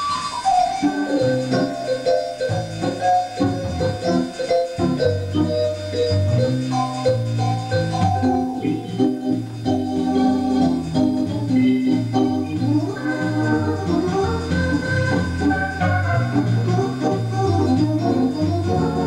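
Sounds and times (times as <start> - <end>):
electronic organ playing: 0.0 - 19.0.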